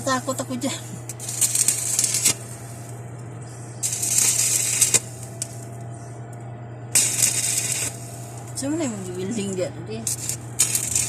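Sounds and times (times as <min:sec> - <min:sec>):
arc welding crackling: 0:00.0 - 0:11.0
steady low hum: 0:00.0 - 0:11.0.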